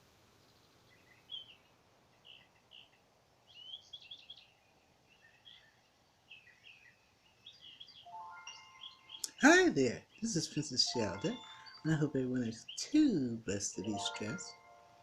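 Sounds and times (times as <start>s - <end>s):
songbird chirps and warbles: 0.1s - 15.0s.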